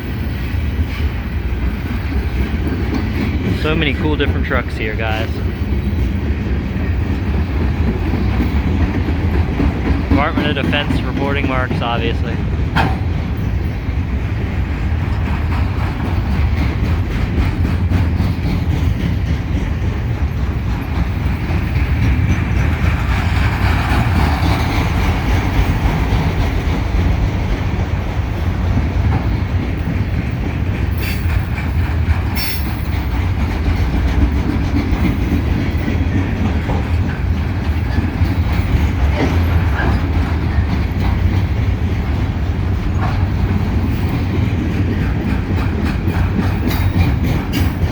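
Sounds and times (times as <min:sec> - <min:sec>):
train wheels rumbling on rails: 0:00.0 - 0:47.9
clacking over rail joints: 0:00.8 - 0:47.9.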